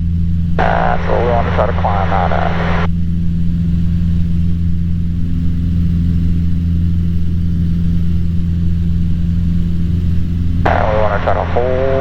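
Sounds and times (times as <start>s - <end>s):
propeller airplane engine droning: 0.0s - 12.0s.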